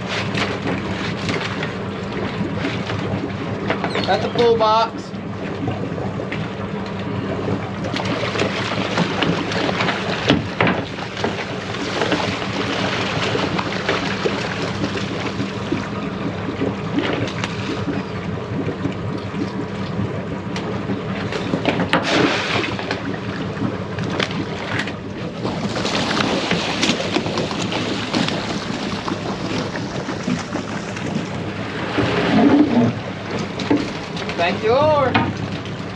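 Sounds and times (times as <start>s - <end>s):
boat engine running: 0.0s - 35.9s
water noise: 0.0s - 35.9s
wind: 0.0s - 35.9s.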